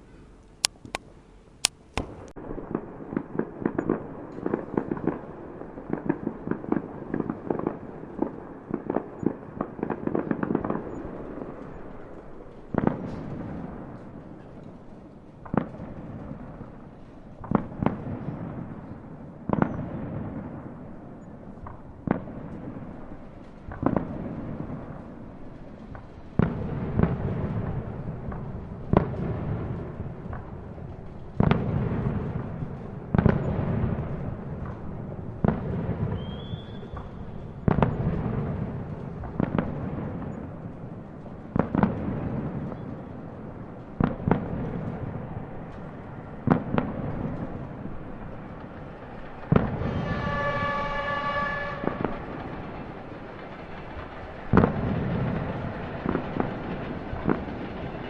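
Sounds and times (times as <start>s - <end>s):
fireworks crackling pops: 0.0s - 58.0s
lingering rumble: 0.0s - 58.0s
fireworks bangs: 1.8s - 58.0s.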